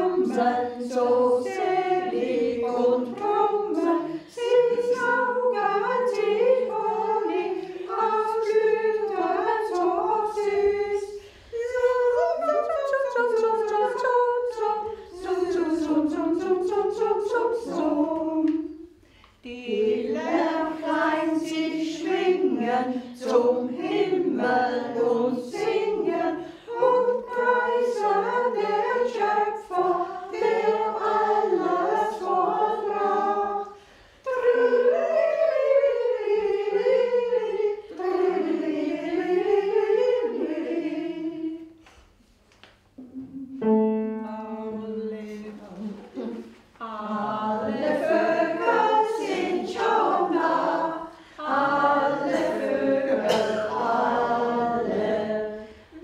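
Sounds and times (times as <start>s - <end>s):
group of women singing unaccompanied: 0.0s - 42.2s, 44.4s - 56.0s.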